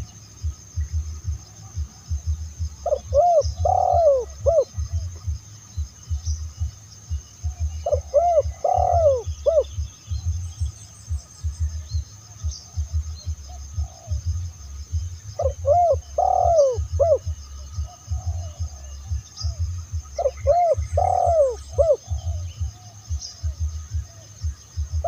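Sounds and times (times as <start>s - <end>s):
dove cooing: 1.2s - 6.8s, 7.4s - 11.8s, 12.4s - 25.0s.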